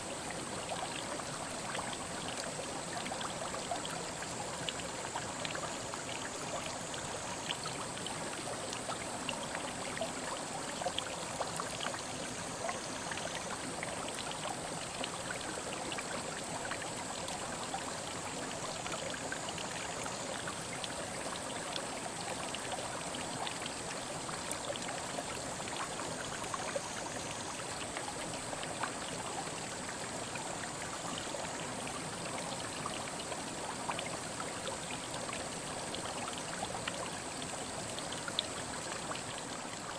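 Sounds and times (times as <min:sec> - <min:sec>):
stream flowing over rocks: 0:00.0 - 0:39.9
water trickling and splashing: 0:00.0 - 0:39.9.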